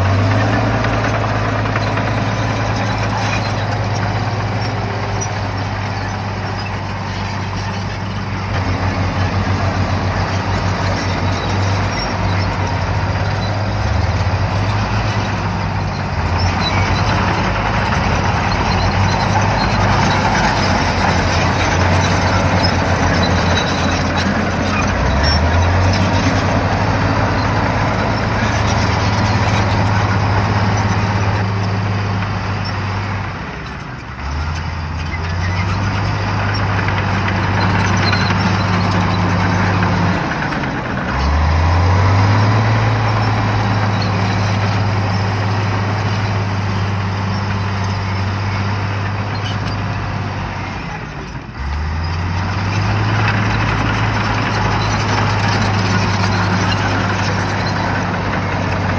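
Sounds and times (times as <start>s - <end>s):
bulldozer diesel engine running hard: 0.0s - 58.9s.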